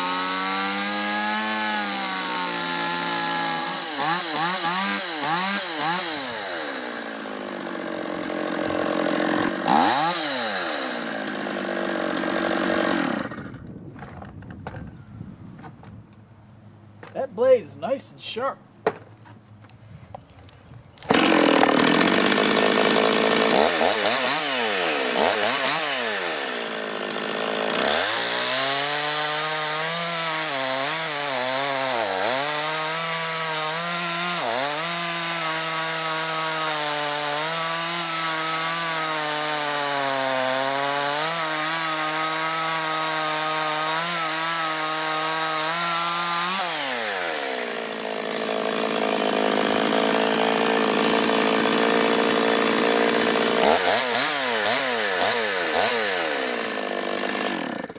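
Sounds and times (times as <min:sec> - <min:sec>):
chainsaw idling: 0:00.0 - 0:13.7, 0:21.0 - 0:57.9
chainsaw revving: 0:00.0 - 0:13.7, 0:21.0 - 0:57.9
chainsaw cutting through log: 0:00.0 - 0:14.1, 0:21.0 - 0:57.9.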